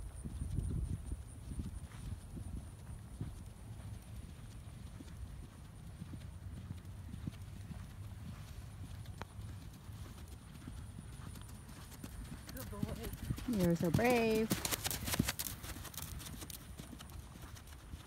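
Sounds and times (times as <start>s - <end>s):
horse hoofbeats on sand: 0.0s - 18.0s.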